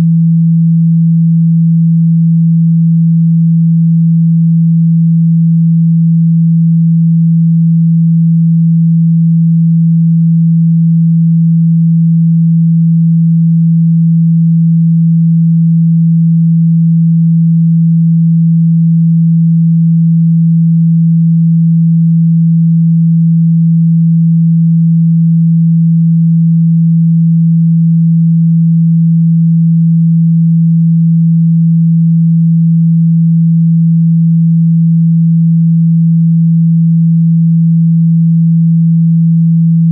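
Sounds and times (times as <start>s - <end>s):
low sine tone hum: 0.0s - 39.9s.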